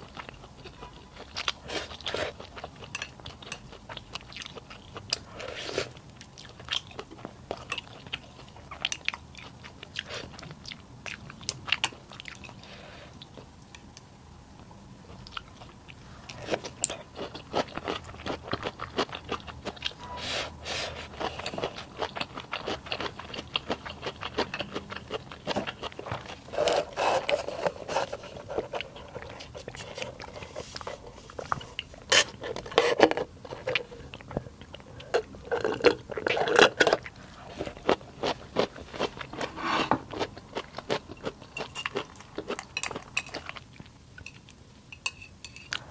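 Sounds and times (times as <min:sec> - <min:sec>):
person chewing and crunching: 0:00.0 - 0:13.8, 0:15.0 - 0:44.6.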